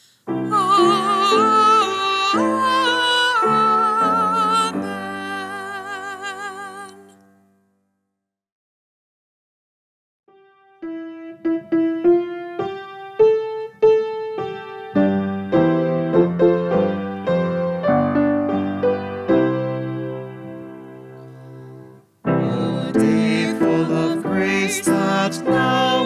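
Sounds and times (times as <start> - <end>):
piano playing a hymn: 0.2 - 7.2, 10.3 - 26.0.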